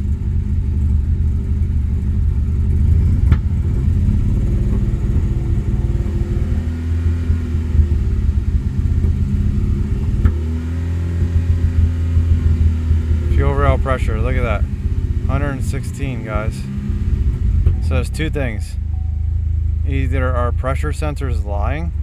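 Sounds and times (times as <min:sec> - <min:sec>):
car engine running rough: 0:00.0 - 0:22.0.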